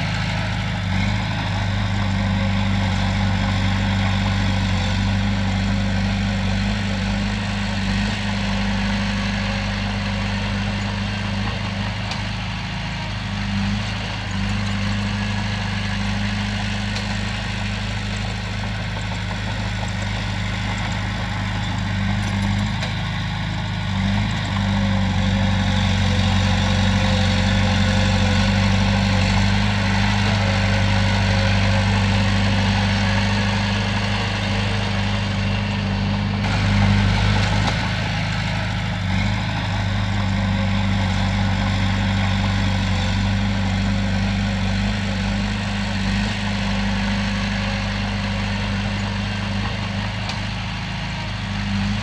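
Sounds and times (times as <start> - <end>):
heavy diesel engine droning: 0.0 - 52.0.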